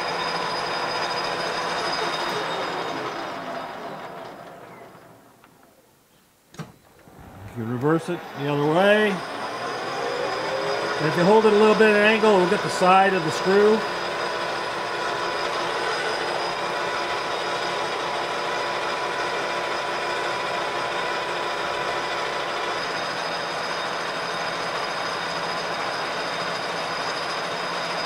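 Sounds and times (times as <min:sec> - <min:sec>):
metal lathe whirring: 0:00.0 - 0:05.5, 0:06.9 - 0:28.0.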